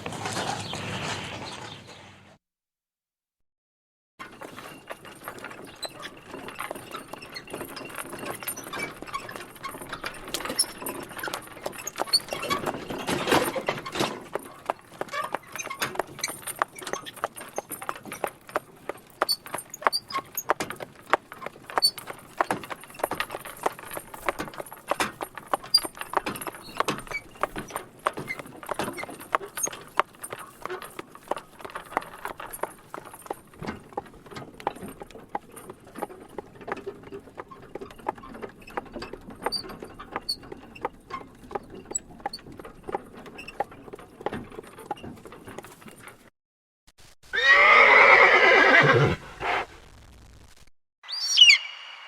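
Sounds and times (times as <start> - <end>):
horse hooves clip-clopping: 4.2 - 46.3.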